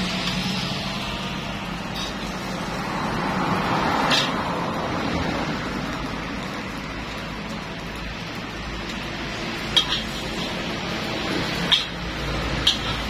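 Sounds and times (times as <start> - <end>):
gas burner roaring: 0.0 - 13.0
noodles frying: 0.0 - 13.0.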